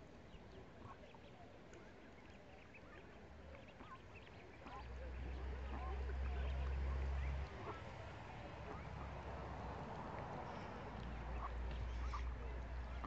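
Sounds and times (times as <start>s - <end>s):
ducklings peeping: 0.2s - 13.0s.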